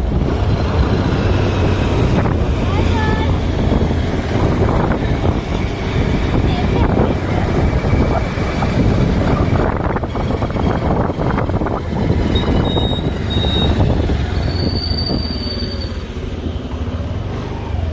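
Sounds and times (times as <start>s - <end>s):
wind buffeting microphone: 0.0s - 15.5s
motorbike engine and tyre rumble: 0.0s - 17.9s.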